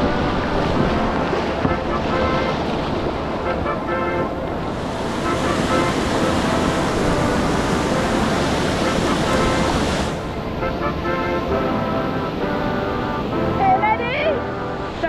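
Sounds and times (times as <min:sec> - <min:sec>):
background music: 0:00.0 - 0:15.0
white water rushing over weir: 0:00.0 - 0:15.0.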